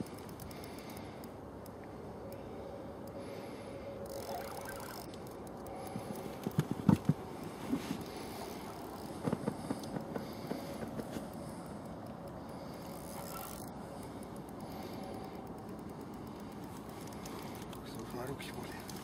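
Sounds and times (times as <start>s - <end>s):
steady hiss with faint hum: 0.0s - 19.0s.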